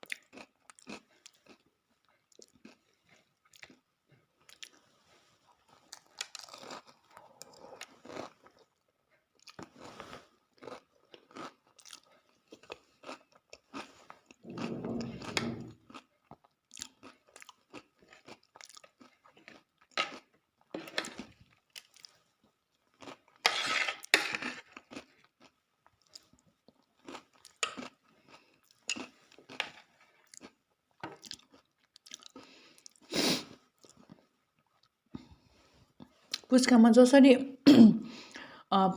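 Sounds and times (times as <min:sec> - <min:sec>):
chewing and crunching: 0:00.0 - 0:36.5.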